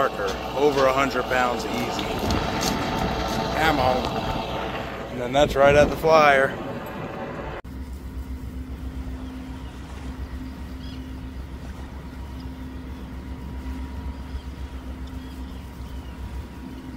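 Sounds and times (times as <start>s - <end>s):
boat engine rumbling: 0.0s - 16.9s
faint steady hum: 0.0s - 16.9s.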